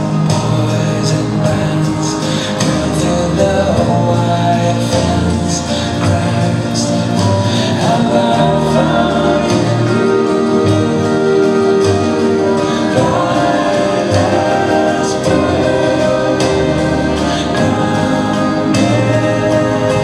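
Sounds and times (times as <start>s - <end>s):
slow song with singing: 0.0s - 20.0s.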